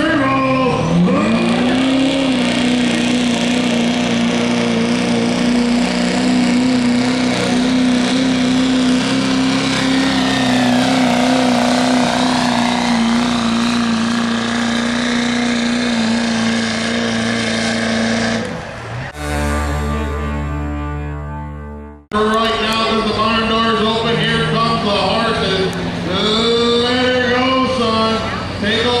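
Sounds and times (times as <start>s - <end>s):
diesel truck engine drone: 0.0s - 29.0s
turbo whine: 0.7s - 24.0s.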